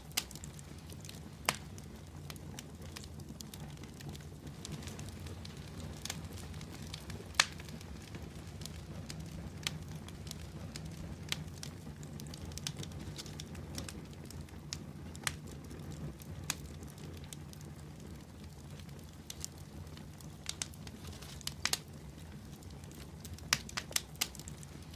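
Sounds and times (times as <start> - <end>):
fire crackling and popping: 0.0 - 24.9
low rumble of flames: 0.0 - 24.9.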